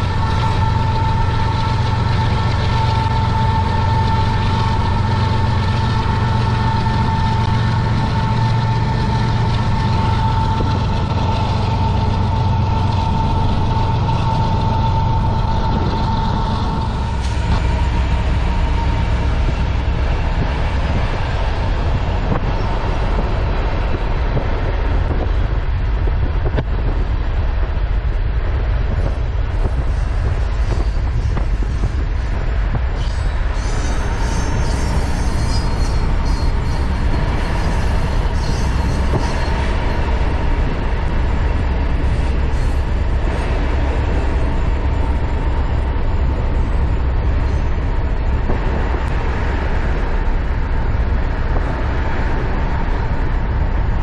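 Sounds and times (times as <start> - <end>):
freight train rumble: 0.0 - 54.0
high train whine: 0.0 - 54.0.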